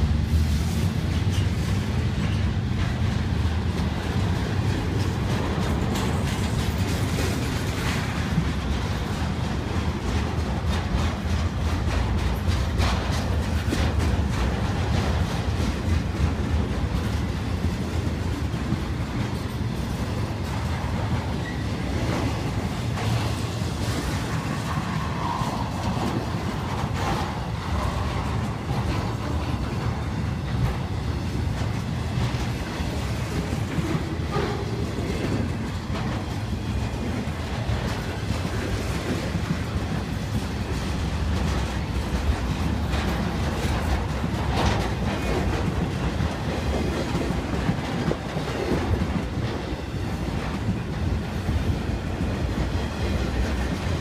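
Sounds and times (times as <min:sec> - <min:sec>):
freight train rumbling past: 0:00.0 - 0:54.0
train wheels clicking on rails: 0:00.0 - 0:54.0.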